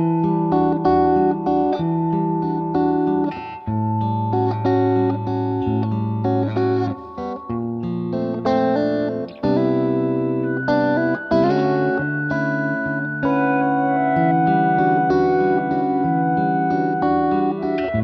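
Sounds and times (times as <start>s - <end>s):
plucked guitar melody: 0.0s - 18.0s.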